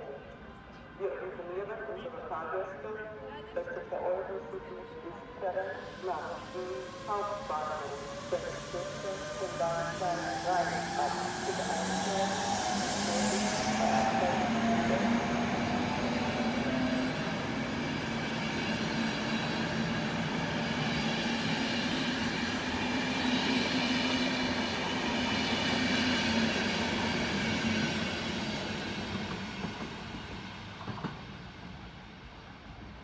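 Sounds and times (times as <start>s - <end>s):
train wheels on rails: 4.9s - 33.0s.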